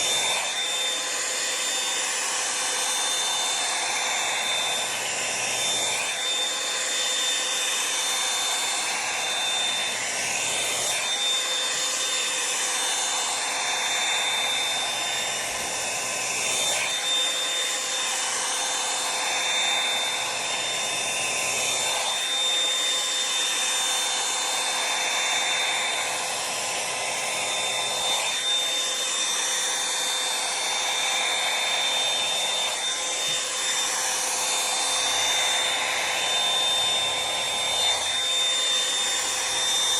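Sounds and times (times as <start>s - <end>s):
hot-air brush dryer running: 0.0s - 39.9s.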